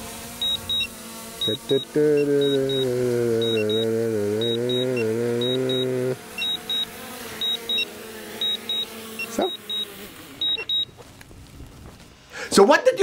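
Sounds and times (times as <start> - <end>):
drone propellers humming: 0.0 - 12.4
short high beeps: 0.4 - 10.9.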